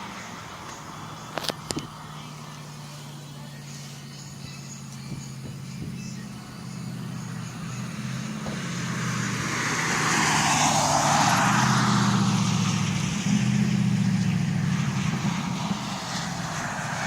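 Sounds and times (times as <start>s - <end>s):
broad rushing noise: 0.0s - 17.0s
car exhaust low drone: 0.0s - 17.0s.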